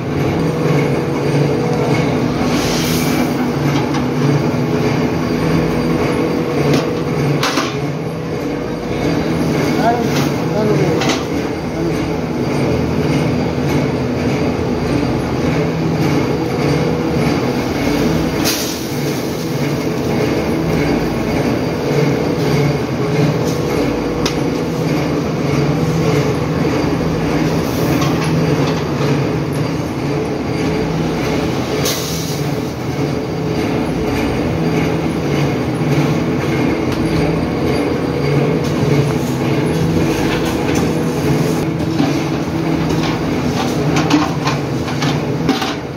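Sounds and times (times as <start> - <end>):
factory machinery humming: 0.0 - 45.9.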